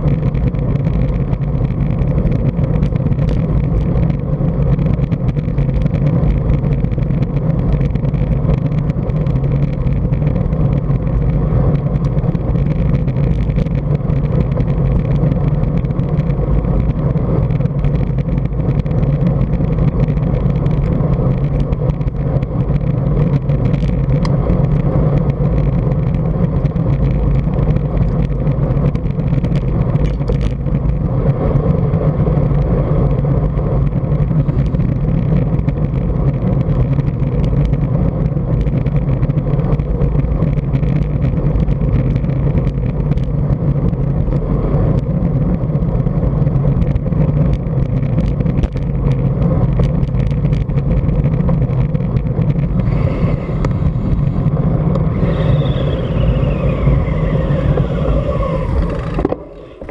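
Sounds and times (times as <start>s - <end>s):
bicycle tyre and road noise: 0.0s - 59.9s
wind rumble on microphone: 0.0s - 59.9s.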